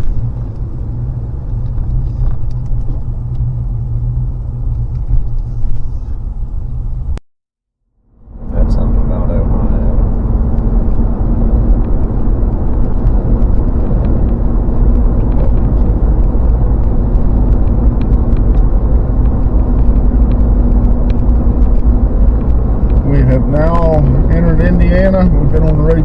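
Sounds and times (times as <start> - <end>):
constant low hum: 0.0 - 7.2, 8.0 - 26.0
truck road and engine rumble: 0.0 - 7.2, 8.0 - 26.0.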